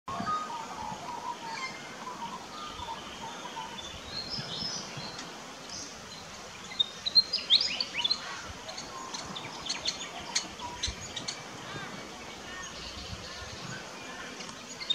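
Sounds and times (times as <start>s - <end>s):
small birds chirping: 0.1s - 14.9s
steady outdoor hiss: 0.1s - 14.9s.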